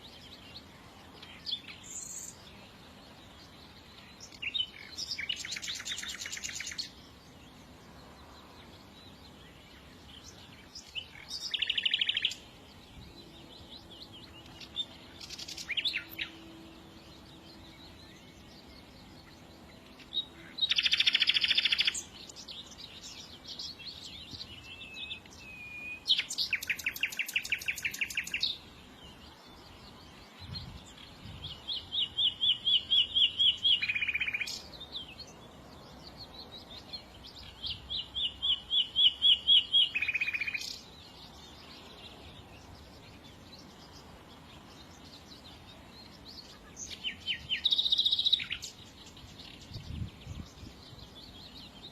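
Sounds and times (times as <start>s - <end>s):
soft bird chirps: 0.0s - 51.9s
songbirds trilling: 0.0s - 51.9s.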